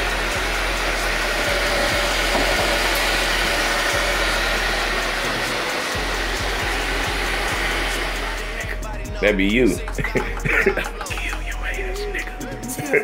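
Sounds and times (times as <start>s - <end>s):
blender motor running: 0.0s - 11.6s.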